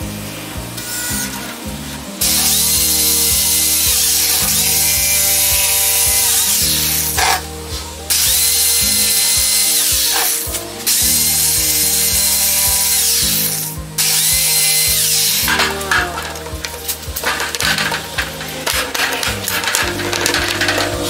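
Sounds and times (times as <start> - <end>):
background music with beat: 0.0 - 21.0.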